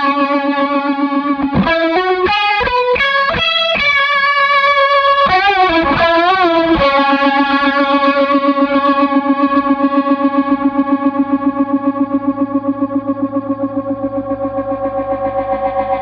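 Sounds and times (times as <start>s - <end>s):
overdriven electric guitar: 0.0s - 16.0s.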